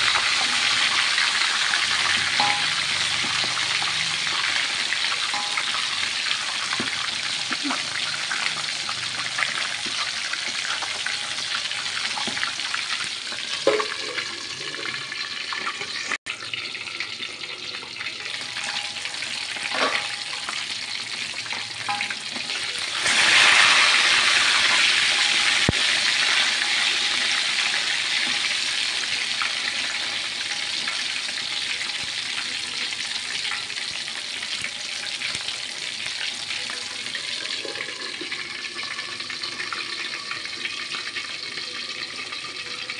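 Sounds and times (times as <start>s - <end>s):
deep-frying crackling sizzle: 0.0s - 42.9s.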